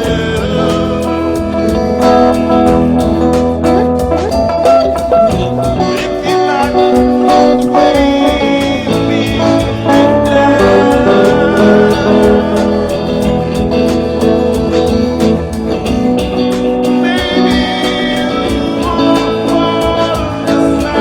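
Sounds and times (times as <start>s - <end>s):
band playing loudly: 0.0s - 21.0s.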